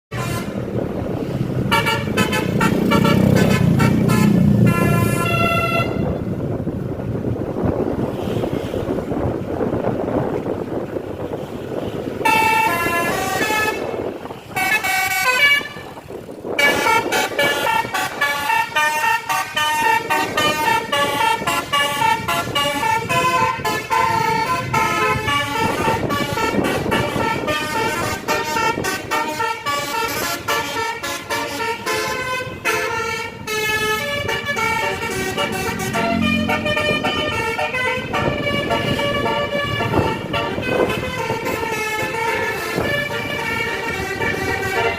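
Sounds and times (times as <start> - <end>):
bus horn playing a tune: 0.1 - 0.8, 1.6 - 6.3, 11.8 - 44.9.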